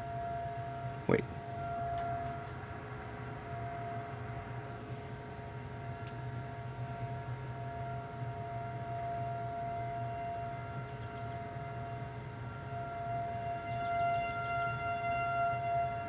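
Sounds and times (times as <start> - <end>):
warning siren steady tone: 0.0 - 16.0.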